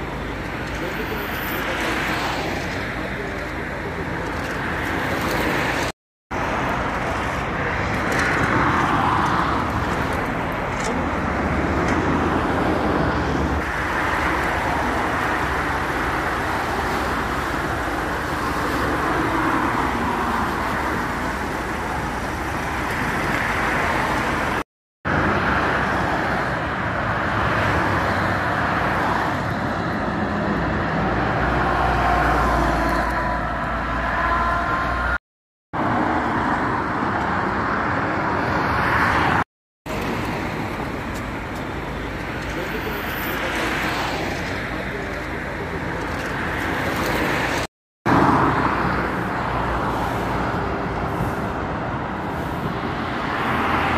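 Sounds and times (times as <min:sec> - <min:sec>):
motorway traffic: 0:00.0 - 0:53.9.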